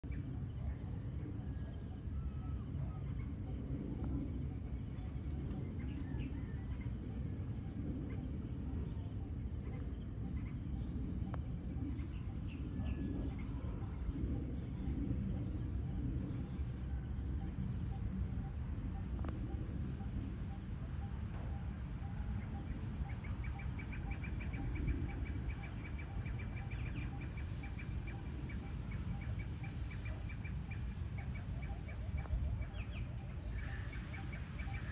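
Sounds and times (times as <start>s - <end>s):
high insect trill: 0.0s - 34.9s
steady low rumble: 0.0s - 34.9s.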